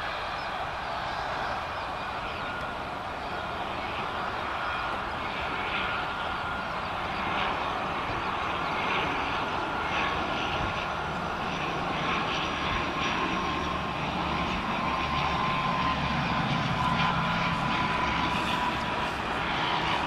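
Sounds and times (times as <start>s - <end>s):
turboprop aircraft droning: 0.0s - 20.0s.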